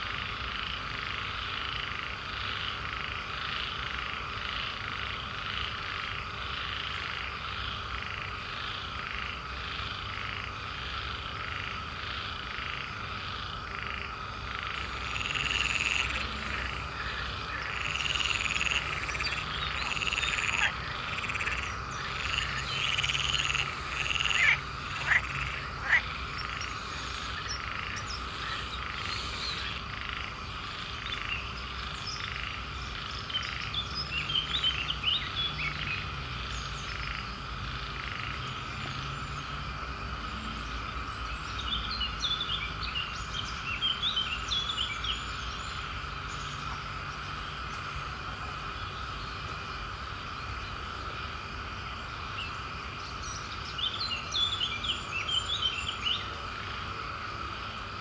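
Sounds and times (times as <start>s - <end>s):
droning frog chorus: 0.0s - 58.0s
frogs croaking: 0.0s - 58.0s.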